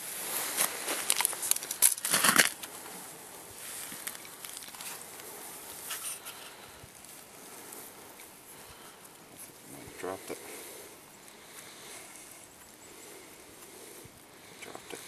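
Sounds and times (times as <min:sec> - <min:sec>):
footsteps crunching on snow: 0:00.0 - 0:15.0.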